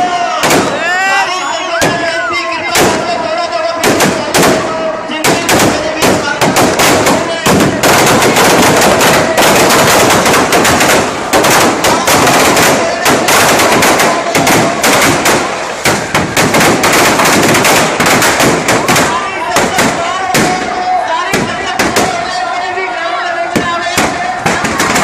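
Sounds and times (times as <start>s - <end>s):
firecrackers banging: 0.0s - 1.0s, 2.7s - 22.6s, 23.4s - 25.0s.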